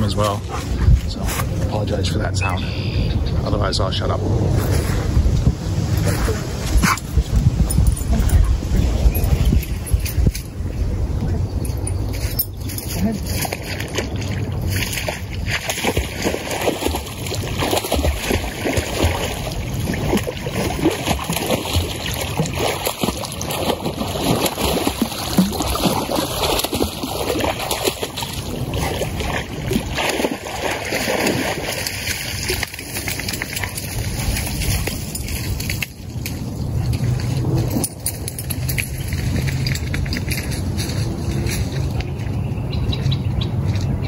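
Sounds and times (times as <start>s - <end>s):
water sloshing and splashing: 4.0s - 42.6s.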